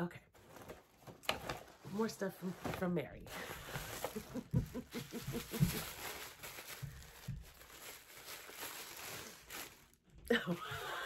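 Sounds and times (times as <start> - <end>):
paper and plastic bag rustling: 0.4 - 10.8.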